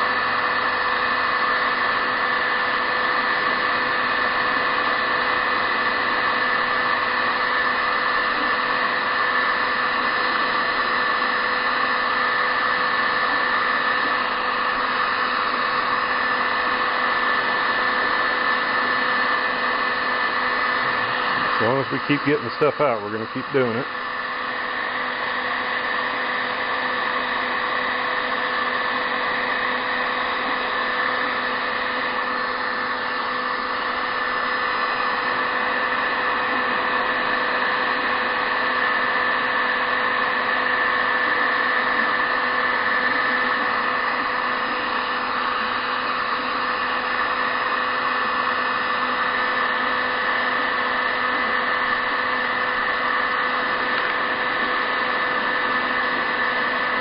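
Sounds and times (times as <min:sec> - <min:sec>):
fan motor whine: 0:00.0 - 0:57.0
heat gun blowing air: 0:00.0 - 0:57.0.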